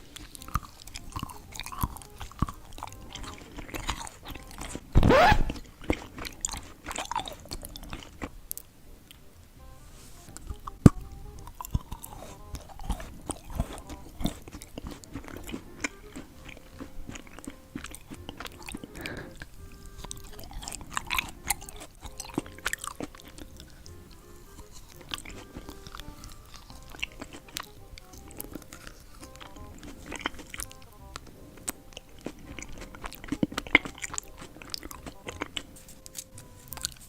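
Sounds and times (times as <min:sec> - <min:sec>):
crunchy chewing: 0:00.0 - 0:37.0
quiet background music: 0:00.0 - 0:37.0.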